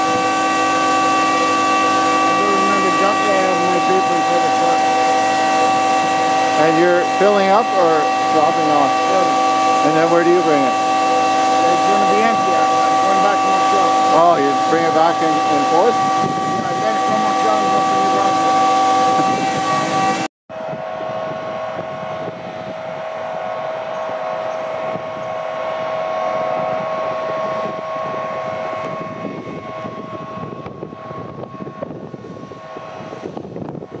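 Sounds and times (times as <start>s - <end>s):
constant machine hum: 0.0s - 34.0s.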